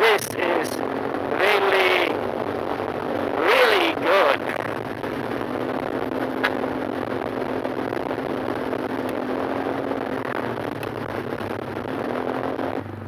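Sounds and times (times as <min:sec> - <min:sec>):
scooter engine droning: 0:00.0 - 0:13.0
wind rushing on microphone: 0:00.0 - 0:13.0.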